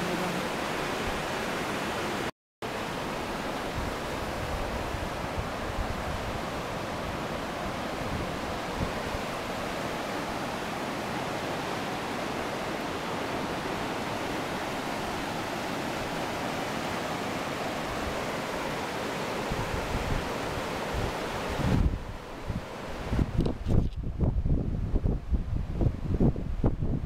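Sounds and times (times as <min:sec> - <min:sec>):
river water rushing: 0:00.0 - 0:23.4.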